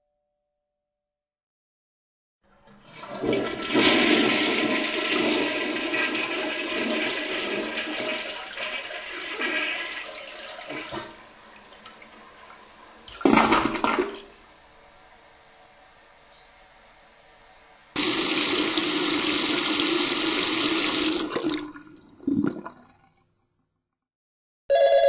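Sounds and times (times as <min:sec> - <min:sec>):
toilet flushing: 0:02.4 - 0:23.2.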